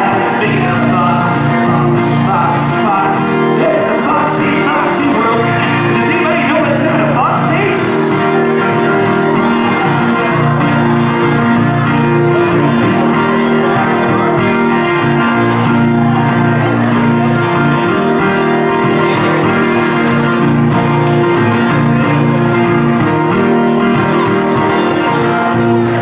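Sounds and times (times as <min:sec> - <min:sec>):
acoustic guitars strumming: 0:00.0 - 0:26.0.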